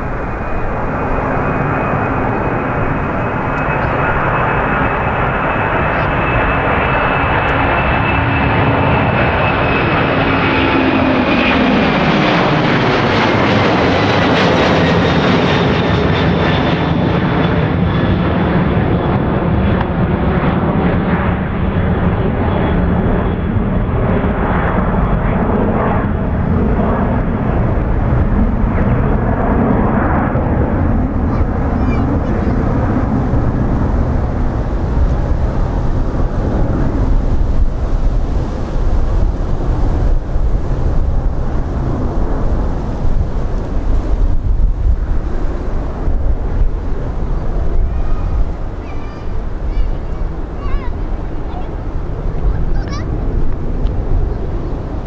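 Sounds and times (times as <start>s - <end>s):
crackling jet roar: 0.0s - 55.0s
jet engines roaring with whine: 0.0s - 55.0s.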